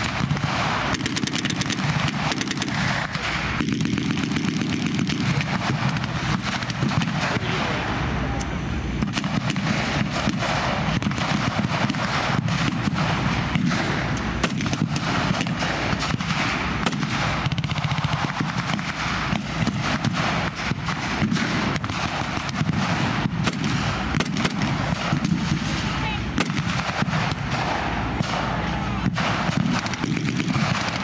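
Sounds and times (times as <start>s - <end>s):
gunfire shots: 0.0s - 7.9s, 9.0s - 31.0s
constant low rumble: 0.0s - 31.0s.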